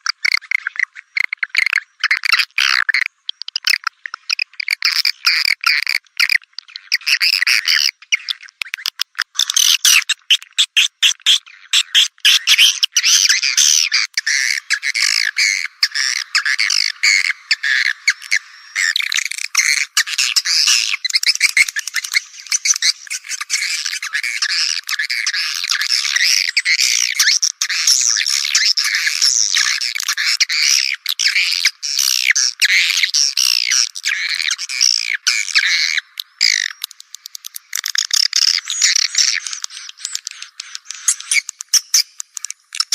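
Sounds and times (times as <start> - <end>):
high twittering bird chatter: 0.0 - 42.9.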